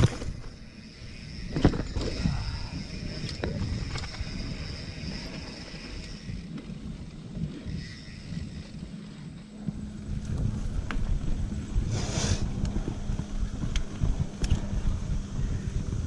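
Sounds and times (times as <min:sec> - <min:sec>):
bike knocks and rattles: 0:00.0 - 0:11.8, 0:12.6 - 0:16.0
bike tyre rumble on dirt: 0:00.0 - 0:16.0
wind on microphone: 0:00.0 - 0:16.0.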